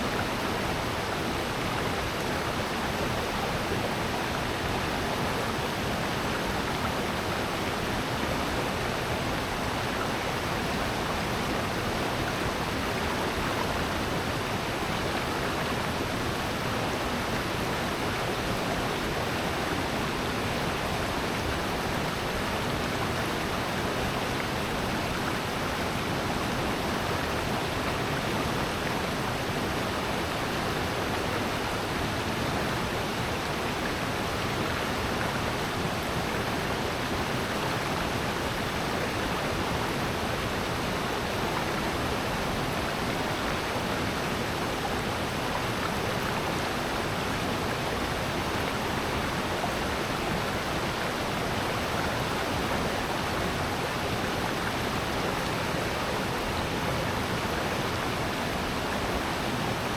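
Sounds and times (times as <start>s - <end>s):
stream and waterfall rushing: 0.0s - 59.9s.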